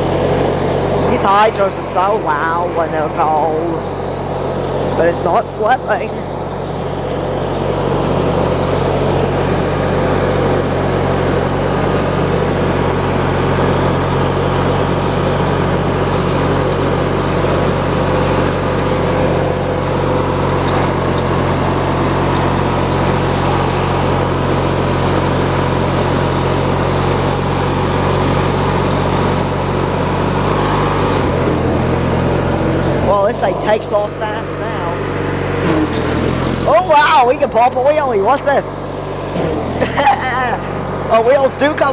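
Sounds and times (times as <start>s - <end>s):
lawn mower engine running: 0.0s - 41.9s
loud transmission whine: 0.0s - 41.9s.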